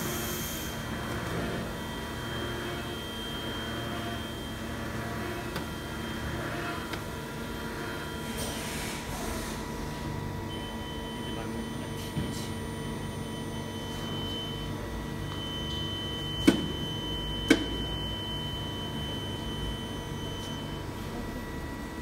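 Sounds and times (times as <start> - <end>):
machinery hum with whining tones: 0.0 - 22.0.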